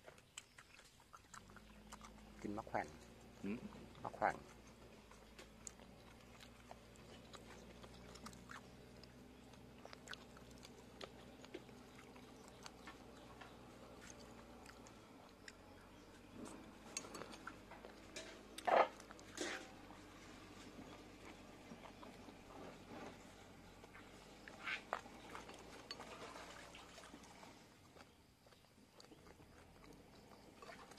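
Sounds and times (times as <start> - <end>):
people chewing: 0.0 - 30.9.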